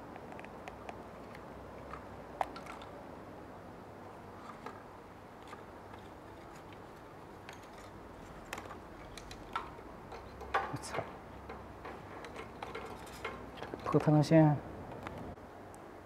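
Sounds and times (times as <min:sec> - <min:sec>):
low steady hiss: 0:00.0 - 0:16.0
cable handling clicks and rustles: 0:00.1 - 0:03.0, 0:04.4 - 0:14.3.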